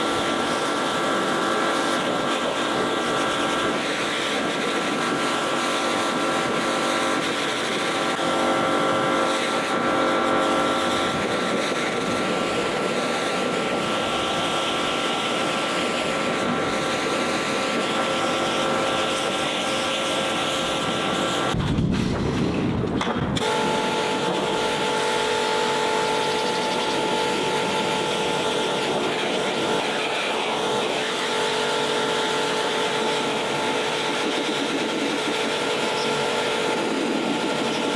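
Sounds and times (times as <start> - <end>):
pressure washer motor whine: 0.0 - 37.9.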